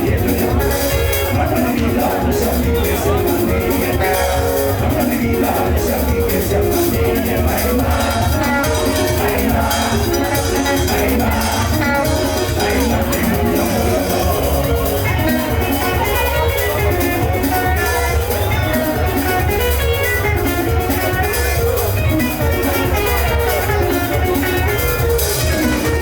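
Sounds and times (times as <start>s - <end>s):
bass line: 0.0s - 26.0s
drum kit beat: 0.0s - 26.0s.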